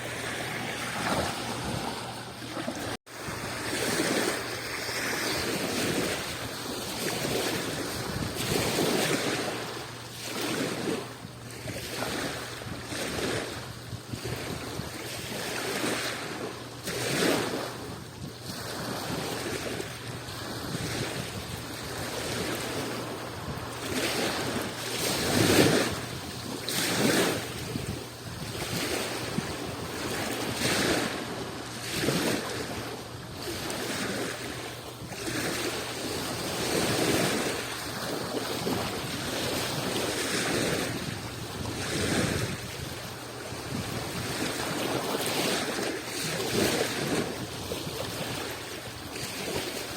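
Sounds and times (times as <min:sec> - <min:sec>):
waves washing on shore: 0:00.0 - 0:49.9.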